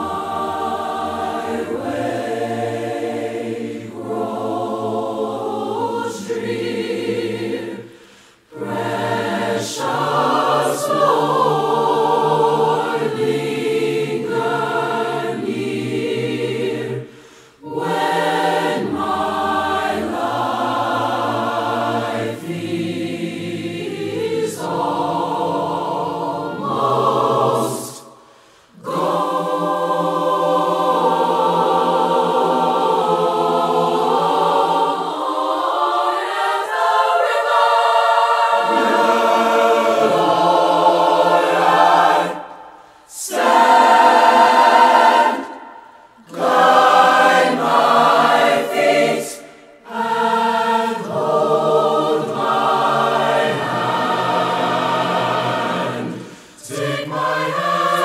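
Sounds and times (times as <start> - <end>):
choir singing a slow hymn: 0.0 - 58.0.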